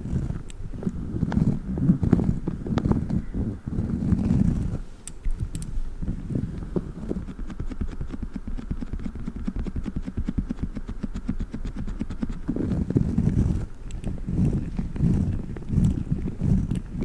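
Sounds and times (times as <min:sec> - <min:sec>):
squishy stress toy squishing: 0:00.0 - 0:17.0.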